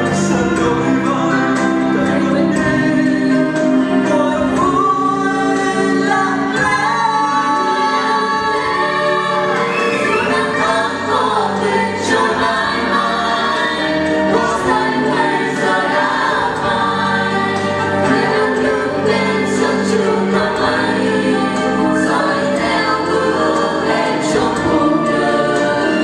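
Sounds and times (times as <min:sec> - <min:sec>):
backing track music: 0:00.0 - 0:26.0
mixed choir singing: 0:00.0 - 0:26.0.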